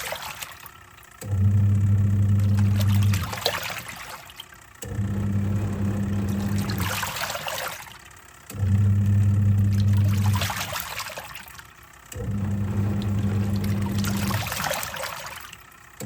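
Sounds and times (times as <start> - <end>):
washing machine motor humming: 0.0 - 16.0
water sloshing in tub: 0.0 - 16.0.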